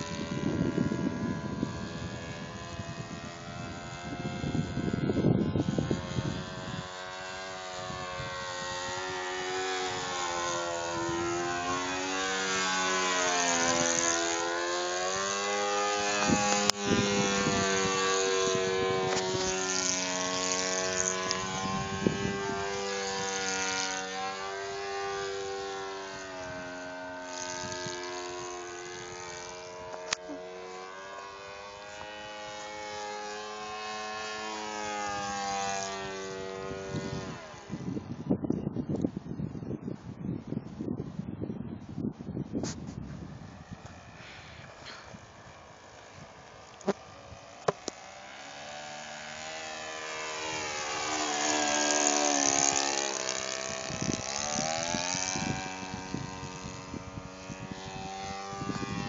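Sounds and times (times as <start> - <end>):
model plane engine: 0.0 - 41.2, 41.8 - 59.0.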